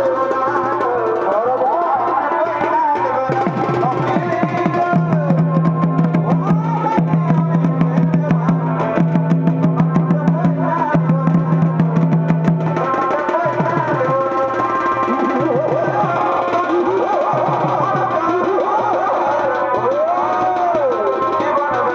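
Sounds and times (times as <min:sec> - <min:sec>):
fast folk drumming: 0:00.0 - 0:21.9.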